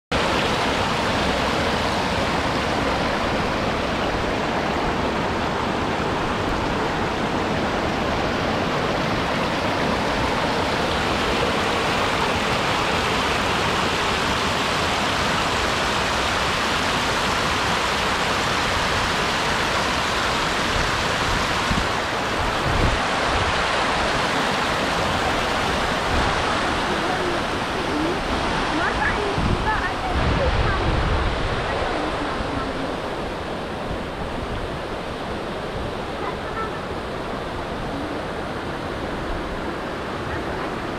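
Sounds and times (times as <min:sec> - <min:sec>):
stream rushing over stones: 0:00.1 - 0:40.9.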